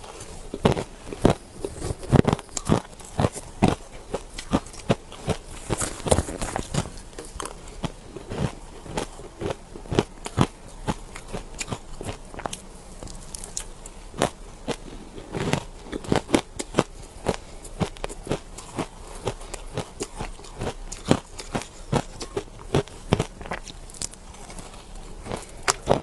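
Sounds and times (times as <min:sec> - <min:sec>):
person chewing shaved ice: 0:00.0 - 0:26.0.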